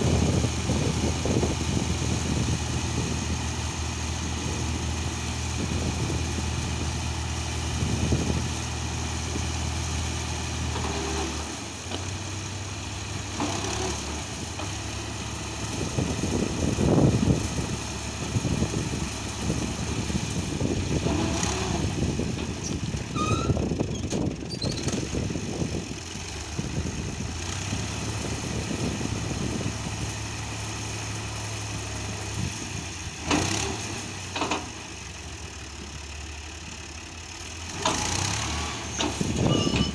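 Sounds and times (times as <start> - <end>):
engine clattering: 0.0 - 39.9
tractor engine idling: 0.0 - 39.9.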